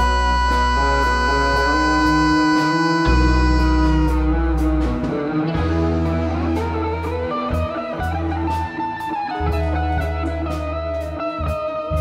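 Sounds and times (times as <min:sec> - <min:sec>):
electric guitar lead line: 0:00.0 - 0:12.0
held bass notes: 0:00.0 - 0:12.0.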